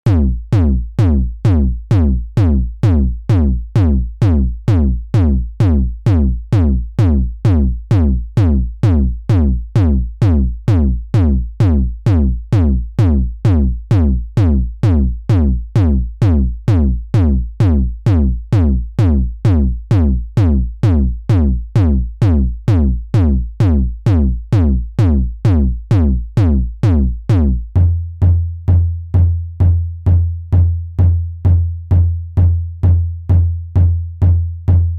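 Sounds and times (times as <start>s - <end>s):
kick drum thuds: 0.0s - 34.9s.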